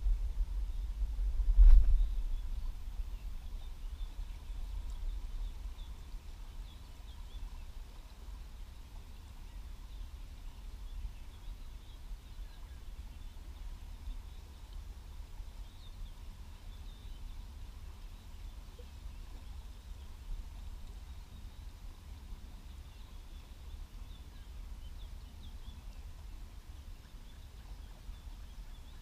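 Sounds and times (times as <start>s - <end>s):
wind rumble on microphone: 0.0s - 29.0s
small birds chirping: 1.8s - 29.0s.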